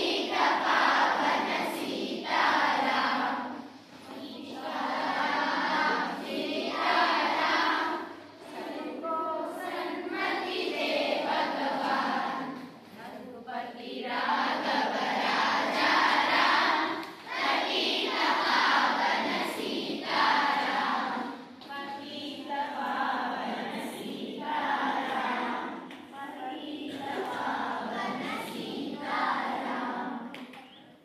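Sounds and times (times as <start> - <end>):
group singing in unison: 0.0 - 30.8.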